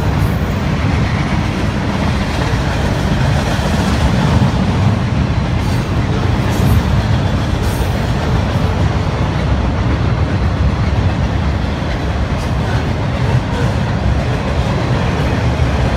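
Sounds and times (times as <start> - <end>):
train wheels rumbling on rail: 0.0 - 15.9.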